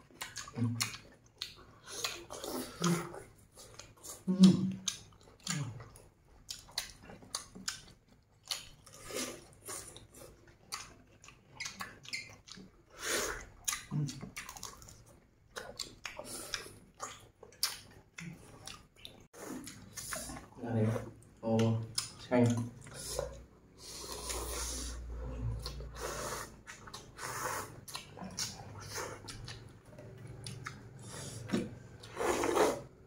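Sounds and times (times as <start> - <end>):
people chewing and smacking: 0.0 - 33.0.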